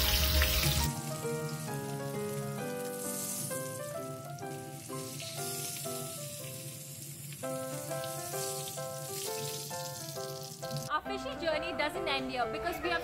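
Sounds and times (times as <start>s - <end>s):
fish sizzling in hot oil: 0.0s - 10.9s
instrumental music: 0.0s - 13.0s.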